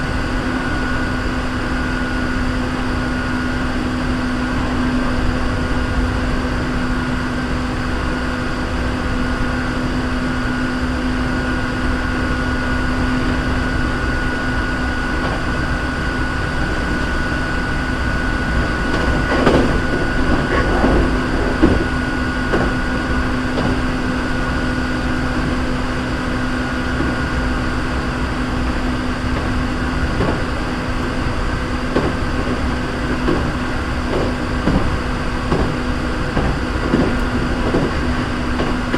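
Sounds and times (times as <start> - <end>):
electric train running: 0.0 - 38.9
train knocks and rattles: 0.0 - 38.9.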